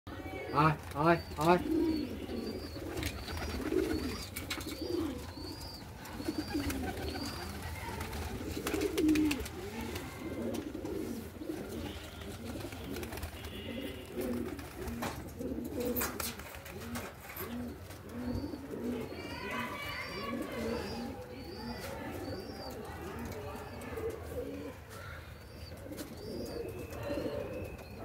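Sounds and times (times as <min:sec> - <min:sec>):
pigeons cooing: 0:00.1 - 0:28.0.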